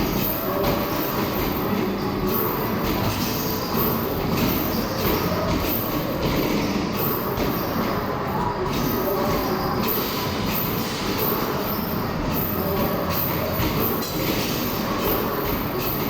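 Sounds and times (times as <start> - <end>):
busy arcade rumbling clatter: 0.0 - 16.0.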